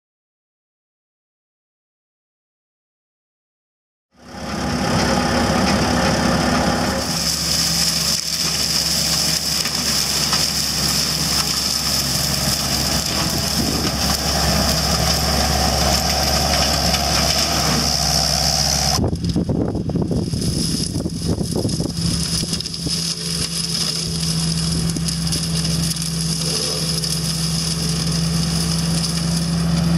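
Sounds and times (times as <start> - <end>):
diesel engine under load: 4.2 - 29.9
mower head mulching brush: 4.2 - 29.9.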